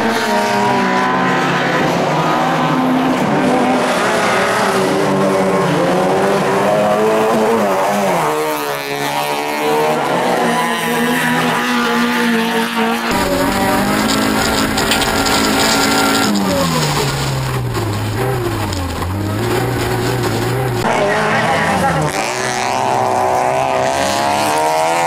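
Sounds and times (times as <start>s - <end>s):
car engine revving high: 0.0s - 25.0s.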